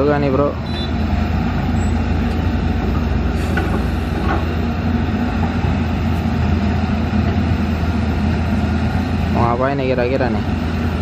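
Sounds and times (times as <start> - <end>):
diesel machinery rumble: 0.0 - 11.0.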